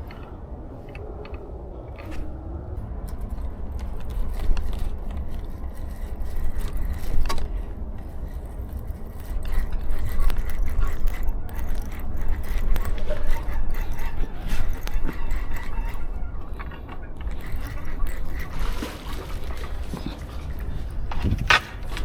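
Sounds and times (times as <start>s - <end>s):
fishing gear scraping and rattling: 0.0s - 22.0s.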